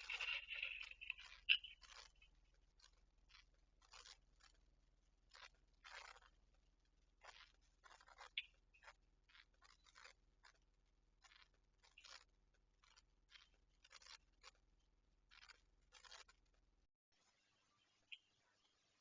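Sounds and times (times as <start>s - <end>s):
faint scratching and rustling: 0.0s - 16.8s.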